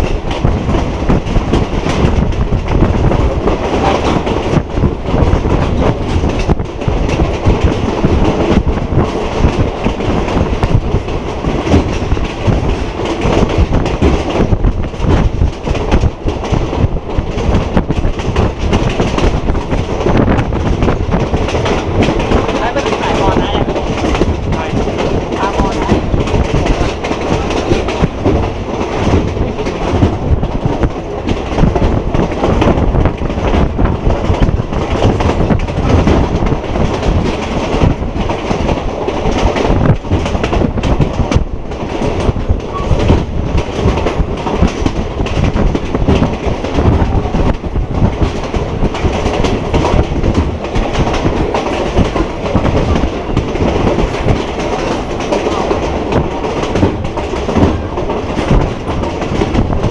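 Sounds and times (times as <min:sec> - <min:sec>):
train rumble and rattle: 0:00.0 - 0:59.9
wheels clattering over rails: 0:00.0 - 0:59.9.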